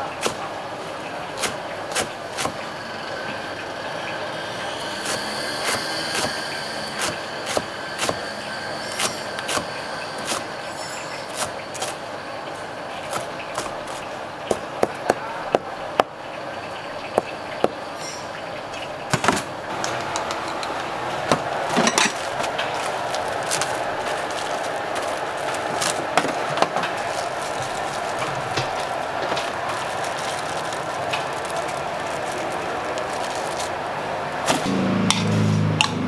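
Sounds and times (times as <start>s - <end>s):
steady background noise: 0.0s - 36.0s.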